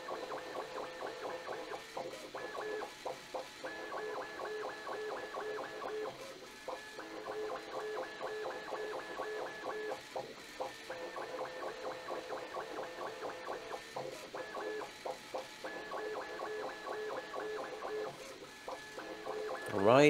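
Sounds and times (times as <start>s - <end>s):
printer stepper motors whining: 0.0s - 20.0s.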